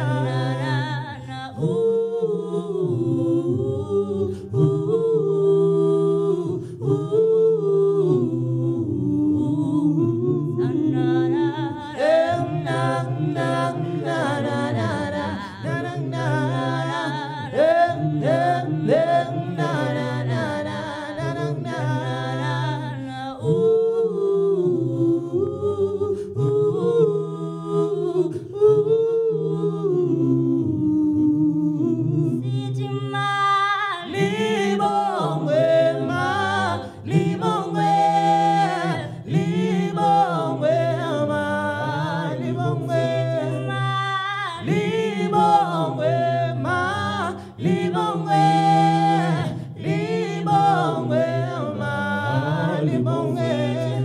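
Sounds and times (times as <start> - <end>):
a cappella group singing harmony: 0.0 - 54.0.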